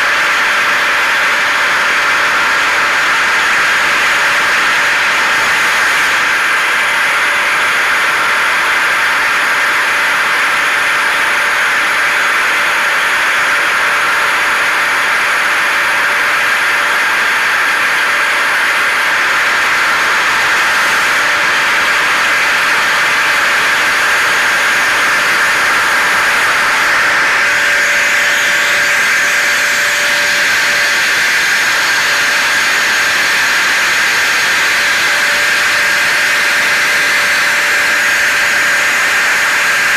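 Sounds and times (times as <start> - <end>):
hair dryer and vacuum whooshing: 0.0 - 39.9.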